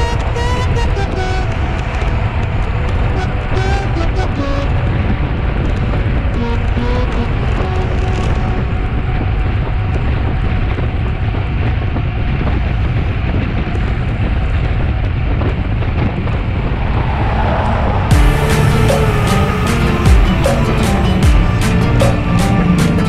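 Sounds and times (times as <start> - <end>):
wind over microphone: 0.0 - 21.2
moving vehicle noise: 0.0 - 23.0.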